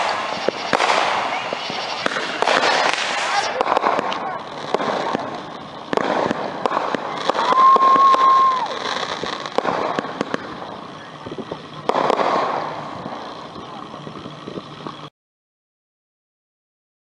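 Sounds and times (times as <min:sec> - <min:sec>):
firework burst: 0:00.0 - 0:15.1
firework whistling: 0:00.0 - 0:15.1
fireworks cracking and popping: 0:00.0 - 0:15.1.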